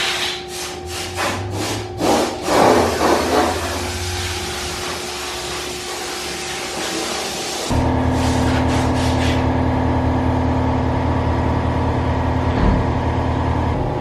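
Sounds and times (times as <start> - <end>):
hydraulic pump humming: 0.0 - 14.0.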